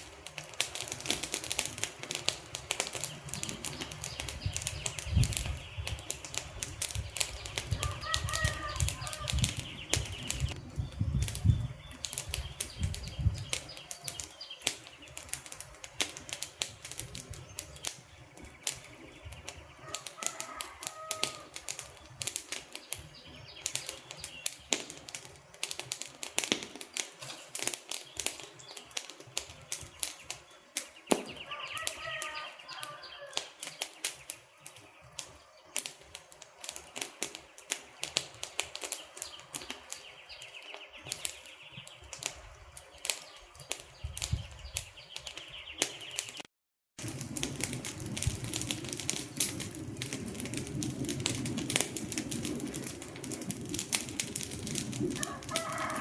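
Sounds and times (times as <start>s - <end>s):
deep fire rumble: 0.0s - 33.0s, 34.0s - 46.1s, 47.0s - 56.0s
wood fire crackling: 0.0s - 56.0s.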